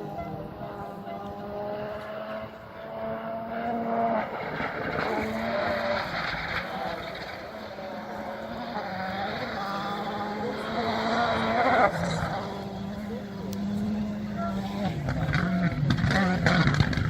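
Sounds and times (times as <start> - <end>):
gravel rattling under tyres: 0.0 - 17.0
rally car engine revving: 0.0 - 17.0.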